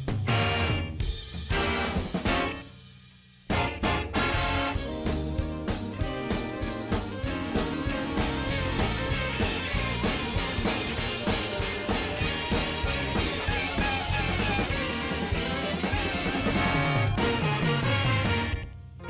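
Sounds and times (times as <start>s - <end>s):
upbeat music with drums and guitar: 0.0s - 19.0s.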